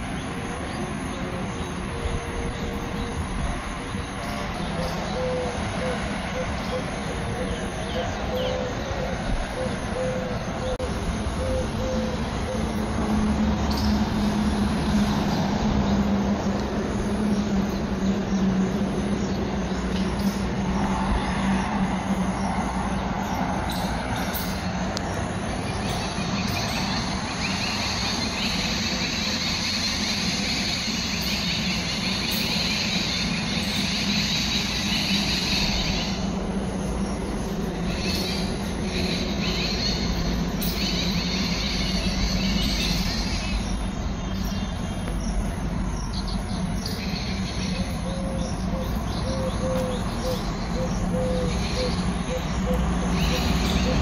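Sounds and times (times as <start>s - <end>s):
high insect trill: 0.0s - 54.0s
vehicle-like rumbling hum: 0.0s - 54.0s.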